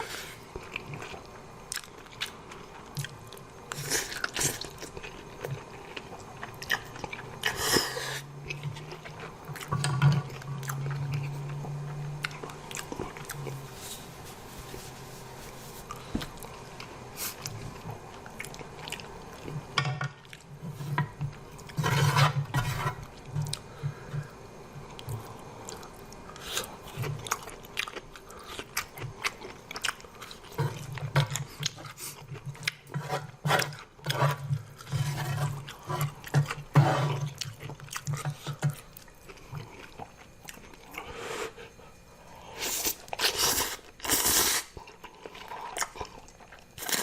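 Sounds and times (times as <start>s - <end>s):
low steady hum: 0.0s - 47.0s
person chewing food: 0.2s - 21.9s, 23.0s - 47.0s.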